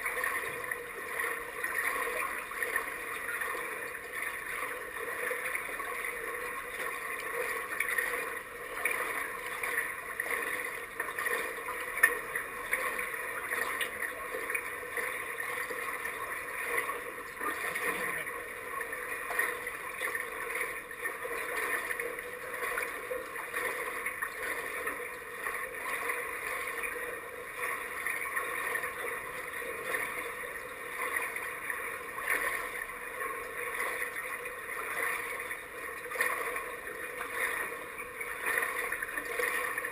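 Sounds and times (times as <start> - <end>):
water lapping and gurgling: 0.0 - 39.9.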